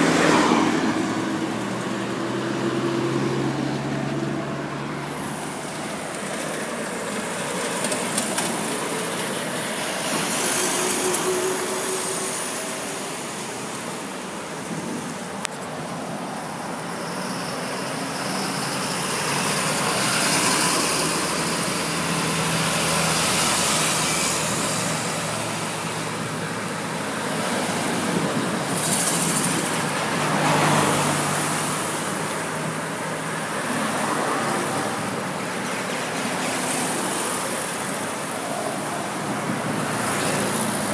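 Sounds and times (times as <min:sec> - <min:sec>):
vehicles driving past: 0:00.0 - 0:40.9.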